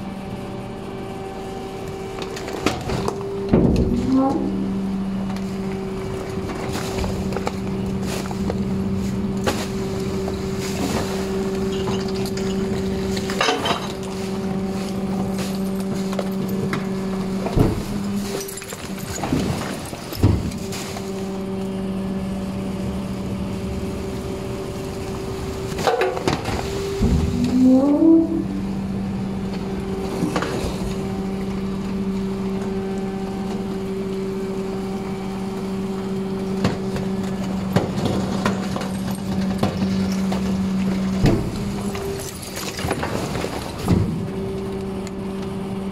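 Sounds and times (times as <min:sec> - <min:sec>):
hydraulic system hum: 0:00.0 - 0:45.9
rising hydraulic whine: 0:00.0 - 0:45.9.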